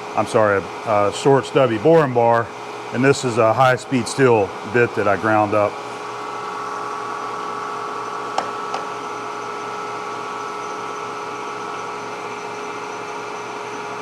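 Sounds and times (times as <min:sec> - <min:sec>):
mechanical whir with hum: 0:00.0 - 0:14.0.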